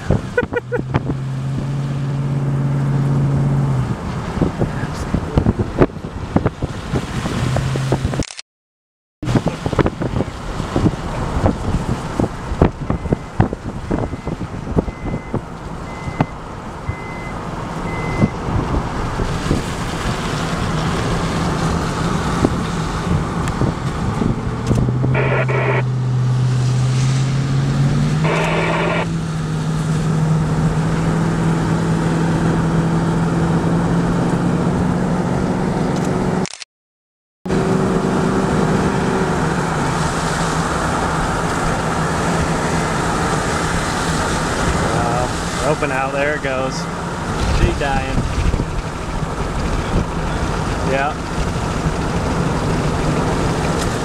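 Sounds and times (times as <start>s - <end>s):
car engine: 0.0s - 8.2s, 9.2s - 36.5s, 37.5s - 54.0s
road noise: 0.0s - 8.4s, 9.2s - 36.7s, 37.5s - 54.0s.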